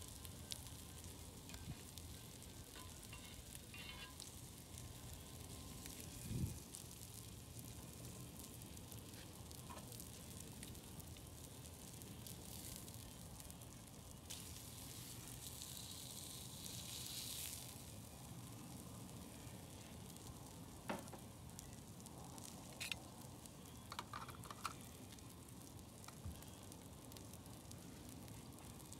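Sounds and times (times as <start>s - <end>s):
meat sizzling on a griddle: 0.0s - 28.9s.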